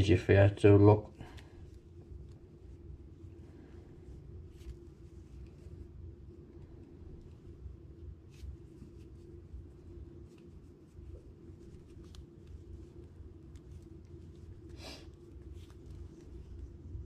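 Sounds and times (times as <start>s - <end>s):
low room drone: 0.0s - 17.0s.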